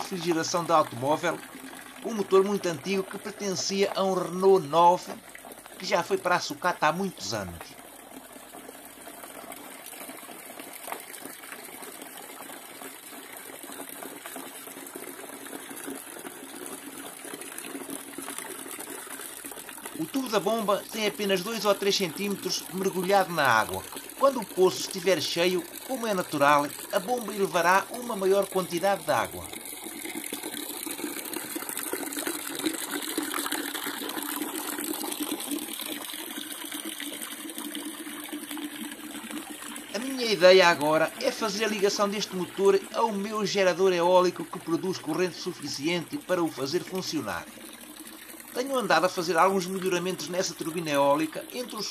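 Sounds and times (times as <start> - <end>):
water gushing from pipe: 0.0 - 51.9.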